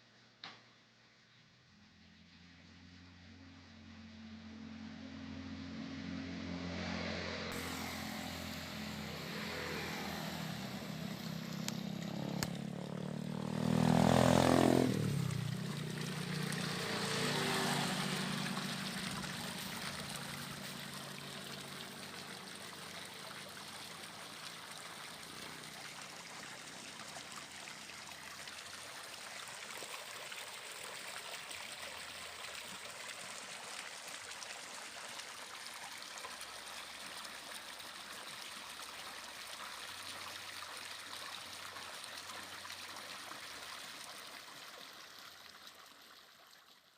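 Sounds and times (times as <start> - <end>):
diesel water pump engine: 2.3 - 46.8
rush of pumped water pouring: 7.5 - 46.9.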